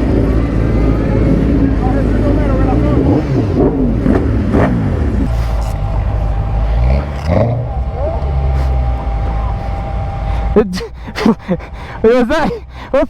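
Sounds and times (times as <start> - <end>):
vehicle engines running: 0.0 - 13.0
voices: 0.0 - 13.0.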